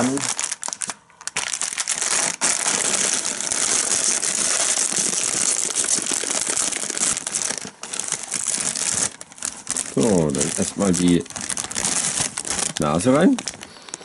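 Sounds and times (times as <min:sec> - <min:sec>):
foil snack bag crinkling: 0:00.0 - 0:14.0.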